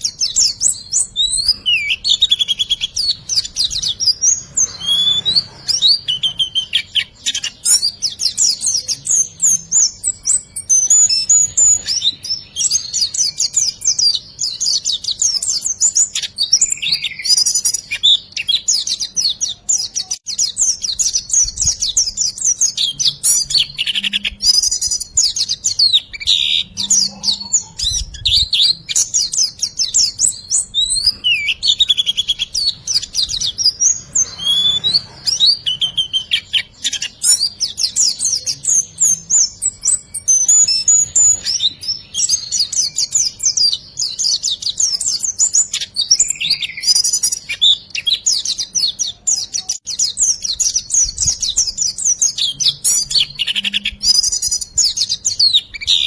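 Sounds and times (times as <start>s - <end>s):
songbird chirping and trilling: 0.0s - 56.0s.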